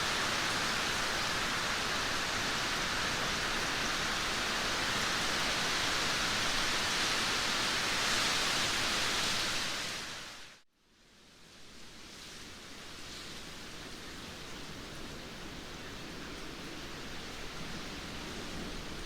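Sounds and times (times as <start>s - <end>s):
heavy rain downpour: 0.0s - 10.6s, 11.3s - 19.0s.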